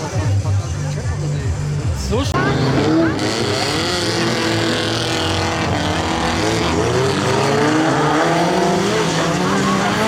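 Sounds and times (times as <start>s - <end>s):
racing car engines revving: 0.0s - 10.0s.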